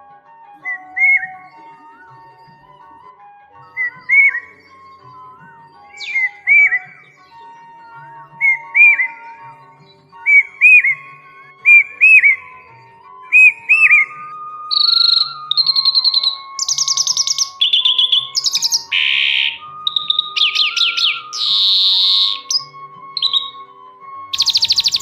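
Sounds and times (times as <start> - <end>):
soft background music: 0.0 - 25.0
songbirds singing: 0.6 - 25.0.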